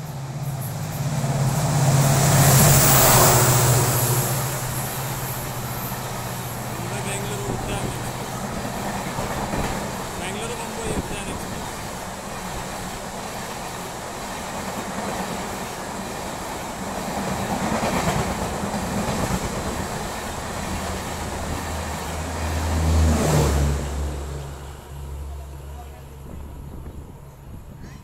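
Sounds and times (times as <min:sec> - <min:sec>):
passenger train rushing past: 0:00.0 - 0:28.0.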